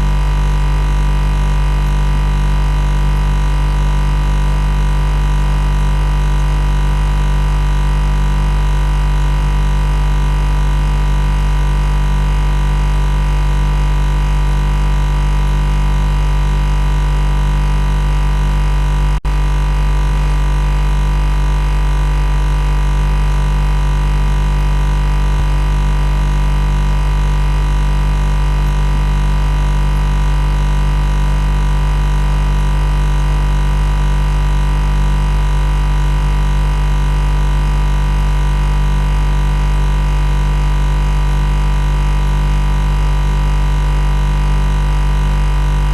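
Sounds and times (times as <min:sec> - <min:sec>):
loud electrical machine buzz: 0:00.0 - 0:45.9.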